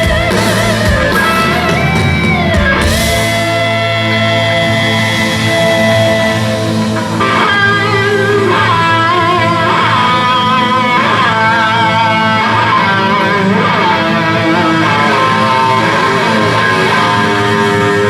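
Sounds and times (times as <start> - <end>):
electric guitar bending notes: 0.0 - 18.0
live rock band playing: 0.0 - 18.0.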